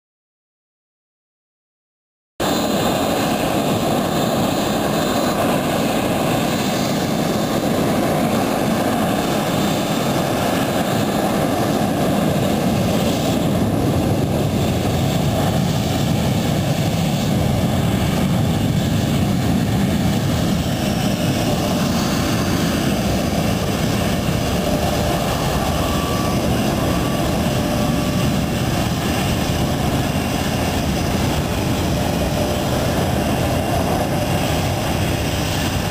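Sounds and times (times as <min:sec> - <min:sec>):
jet engines running: 0:02.4 - 0:35.9.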